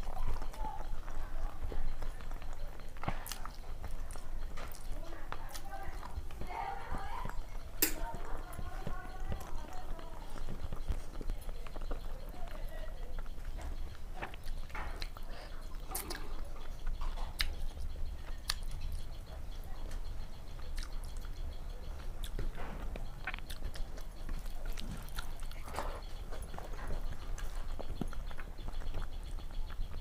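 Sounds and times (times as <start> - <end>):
steady low hum: 0.0 - 30.0
wet chewing and lip smacks: 0.0 - 30.0.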